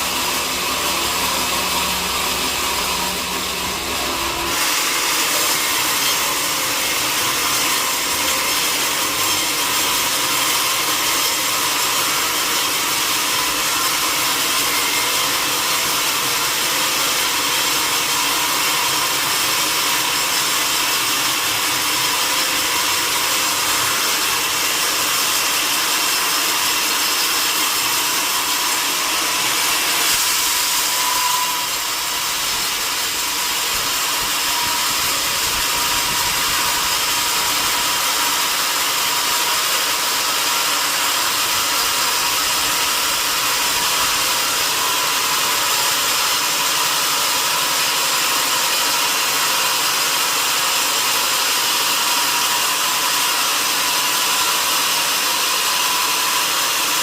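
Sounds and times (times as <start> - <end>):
saw cutting through log: 0.0 - 57.0.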